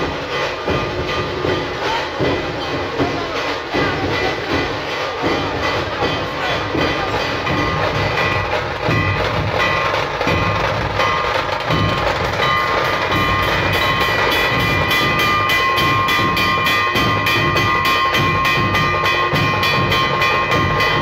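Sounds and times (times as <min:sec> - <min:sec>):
drum troupe drumming: 0:00.0 - 0:21.0.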